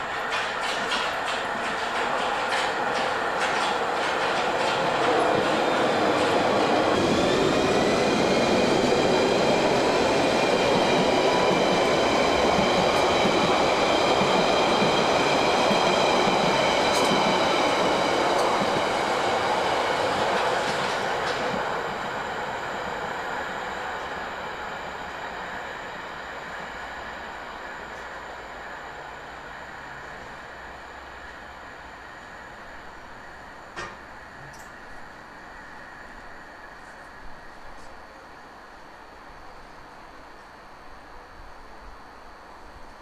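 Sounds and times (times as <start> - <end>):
train wheels on rails: 0.0 - 38.0
high steady whining tones: 2.7 - 42.8.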